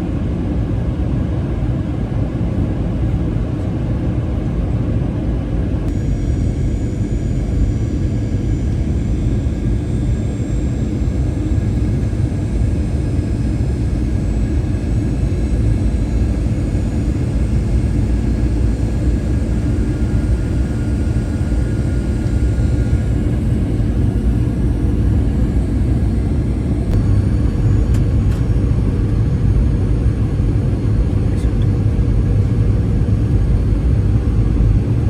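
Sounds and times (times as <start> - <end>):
airliner cabin rumble: 0.0 - 35.0
faint steady whines: 0.0 - 35.0.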